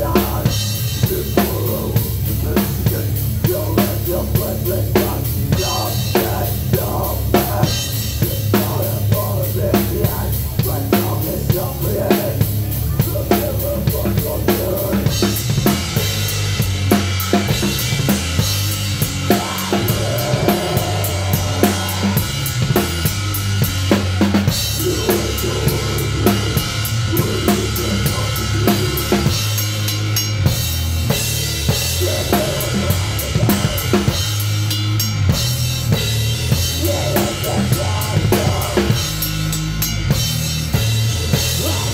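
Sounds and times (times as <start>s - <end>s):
bass and guitar notes: 0.0s - 41.9s.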